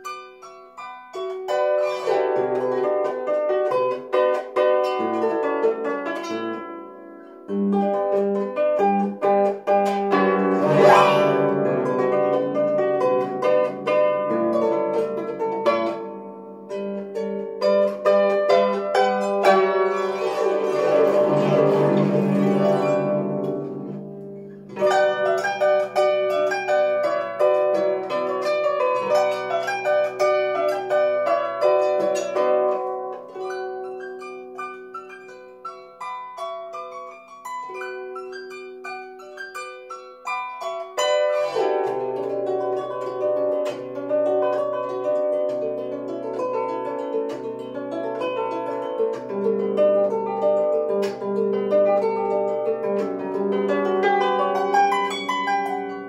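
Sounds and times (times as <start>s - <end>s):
harp playing flamenco-style piece: 0.0s - 56.0s.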